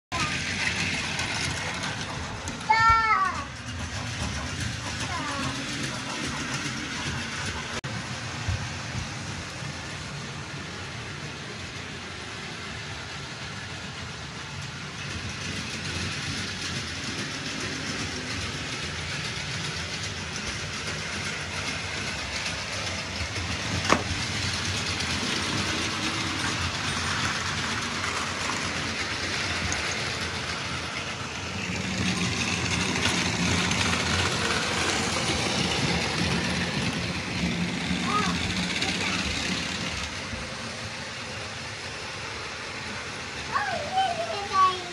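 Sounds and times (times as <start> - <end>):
toy trains whirring on track: 0.1 - 44.9.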